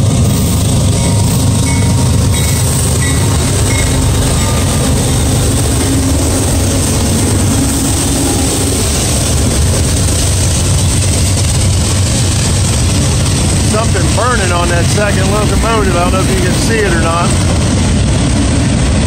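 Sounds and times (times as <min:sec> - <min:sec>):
diesel locomotive engines: 0:00.0 - 0:19.0
train cars rolling on rails: 0:00.0 - 0:19.0.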